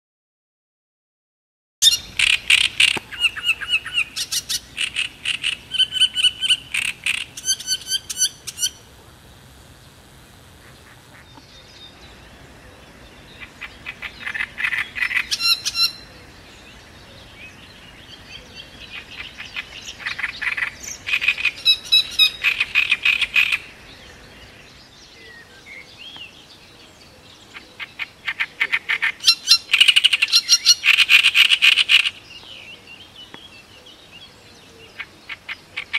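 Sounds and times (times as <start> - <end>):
reed warbler singing: 1.8 - 35.9.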